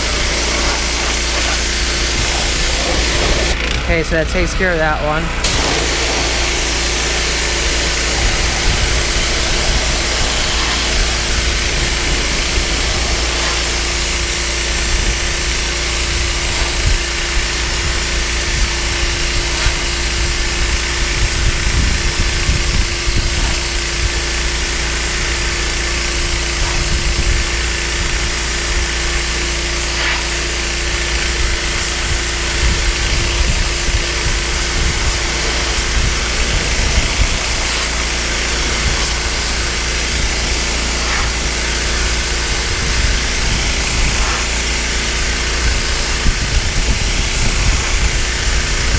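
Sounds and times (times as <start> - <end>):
water jet hissing on wood: 0.0 - 4.7, 5.4 - 48.9
pressure washer engine running: 0.0 - 48.9.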